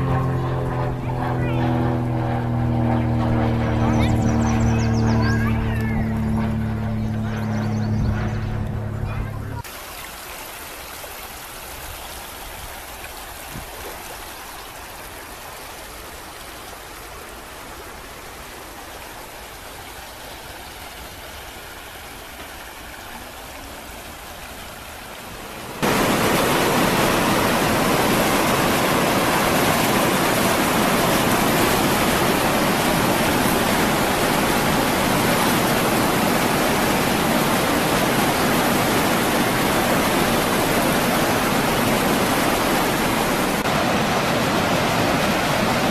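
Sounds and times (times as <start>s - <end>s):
creek babbling over stones: 9.1s - 45.9s
whitewater river rapids rushing: 9.2s - 45.9s.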